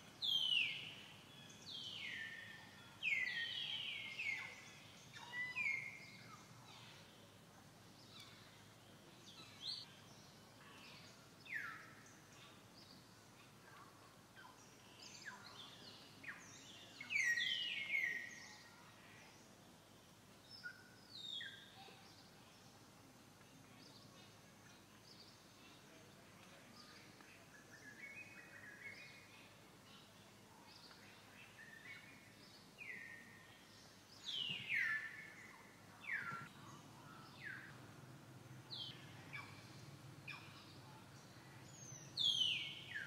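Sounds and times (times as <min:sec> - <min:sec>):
faint forest ambience: 0:00.0 - 0:43.0.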